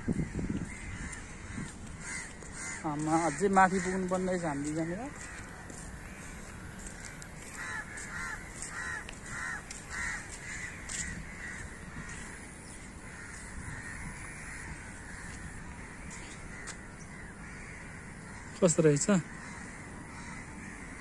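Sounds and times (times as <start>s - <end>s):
bird calling: 0.0s - 21.0s.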